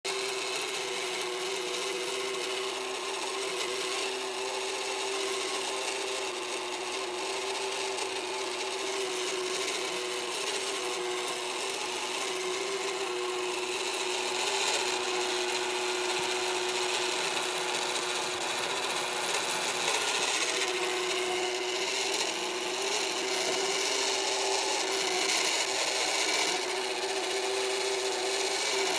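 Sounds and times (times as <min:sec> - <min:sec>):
motor grinding over a hum: 0:00.2 - 0:28.9.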